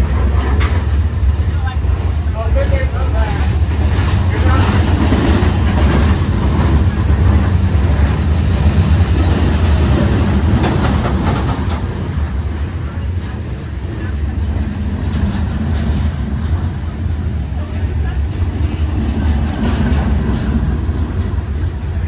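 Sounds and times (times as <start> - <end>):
train rumbling on track: 0.0 - 22.0
train wheel clacks: 0.0 - 22.0.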